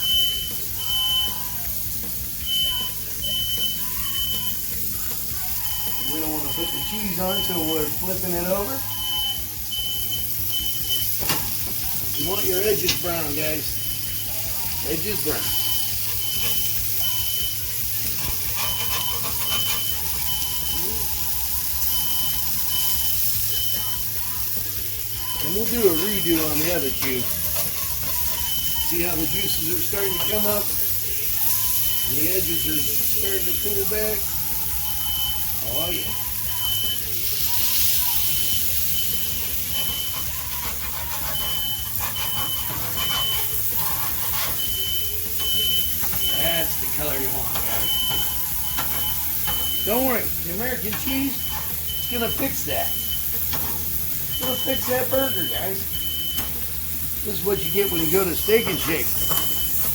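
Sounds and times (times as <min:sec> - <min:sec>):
meat sizzling on a griddle: 0:00.0 - 0:59.9
smoke alarm beeping: 0:00.0 - 0:59.9.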